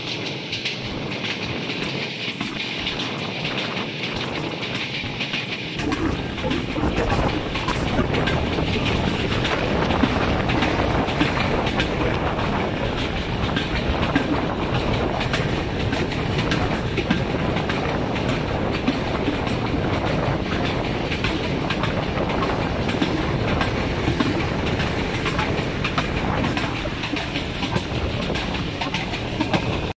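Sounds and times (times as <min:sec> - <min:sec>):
train rumbling at speed: 0:00.0 - 0:29.9
wheels clattering on track: 0:00.0 - 0:29.9.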